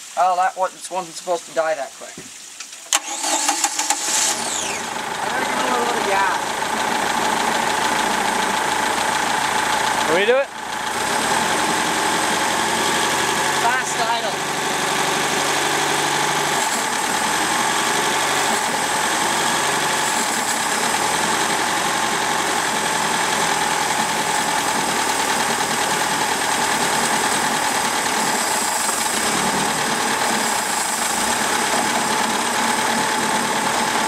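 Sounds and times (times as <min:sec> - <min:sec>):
boat engine fast idle: 0:02.9 - 0:34.0.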